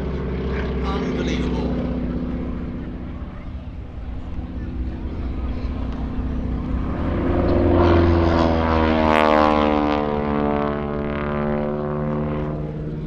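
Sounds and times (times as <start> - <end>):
propeller plane engine passing by: 0.0 - 13.0.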